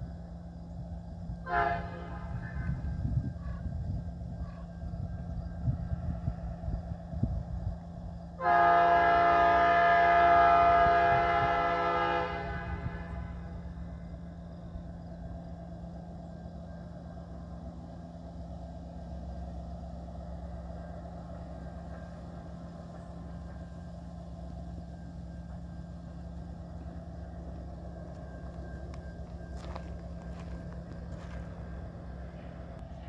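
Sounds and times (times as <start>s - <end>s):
diesel locomotive engines running: 0.0s - 33.0s.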